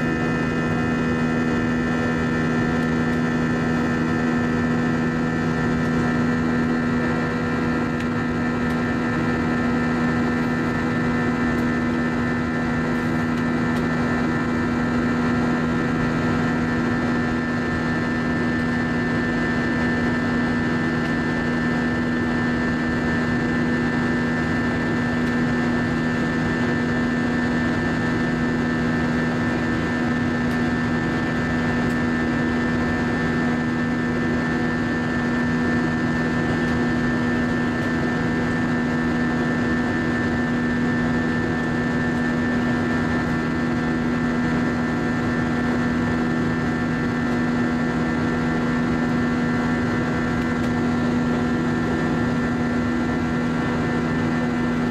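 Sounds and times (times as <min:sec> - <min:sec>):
airplane cabin engine drone: 0:00.0 - 0:54.9
held humming tones: 0:00.0 - 0:54.9.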